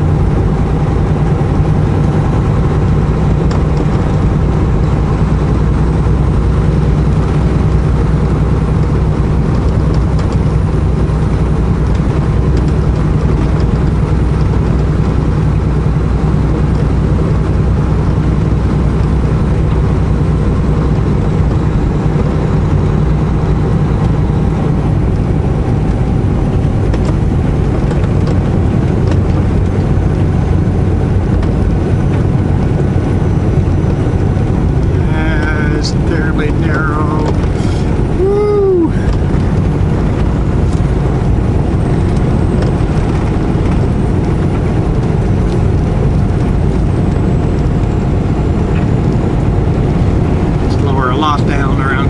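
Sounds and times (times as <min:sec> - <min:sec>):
diesel truck engine humming: 0:00.0 - 0:52.0
road noise: 0:00.0 - 0:52.0.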